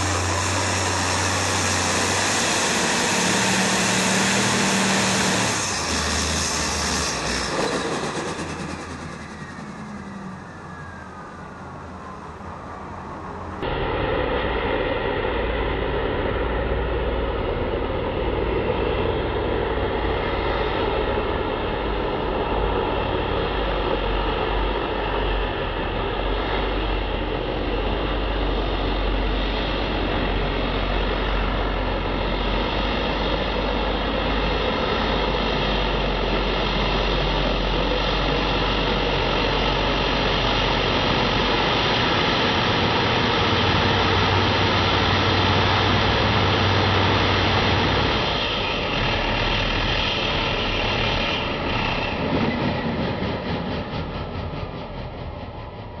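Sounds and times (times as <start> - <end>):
diesel tractor engine droning: 0.0 - 56.0.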